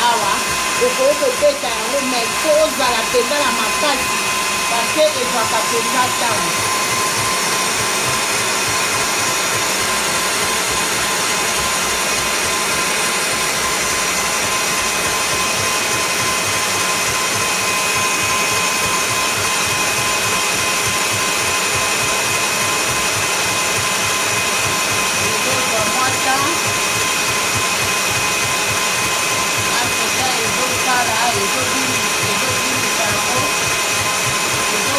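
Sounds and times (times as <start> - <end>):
stand mixer whisking: 0.0 - 34.9.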